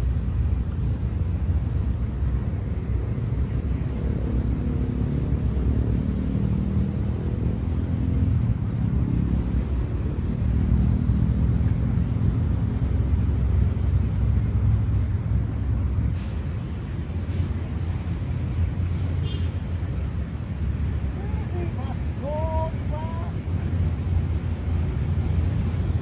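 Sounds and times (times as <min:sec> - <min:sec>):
distant engine rumble: 0:00.0 - 0:26.0.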